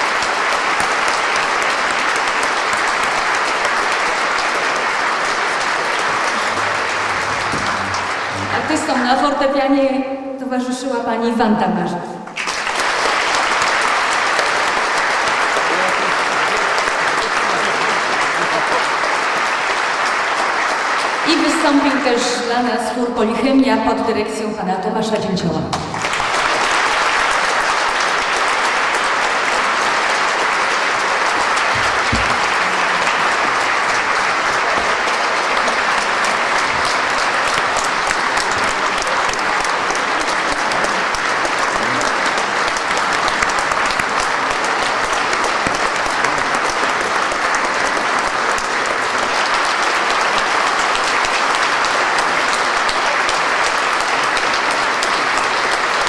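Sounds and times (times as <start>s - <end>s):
audience applauding: 0.0s - 9.7s, 12.2s - 22.9s, 25.7s - 56.0s.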